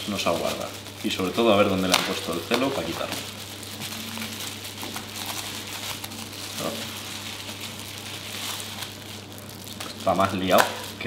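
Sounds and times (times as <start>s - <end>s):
bubble wrap crackling: 0.0s - 11.0s.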